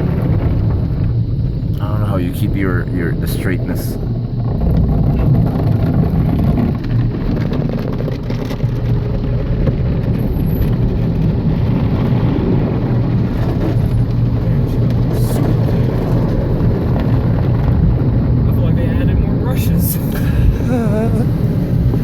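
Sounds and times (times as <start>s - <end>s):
car wash rumbling and rushing: 0.0s - 22.0s.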